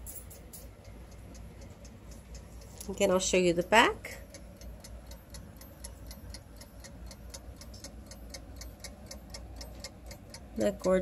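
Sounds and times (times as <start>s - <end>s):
clock ticking rapidly: 0.7s - 11.0s.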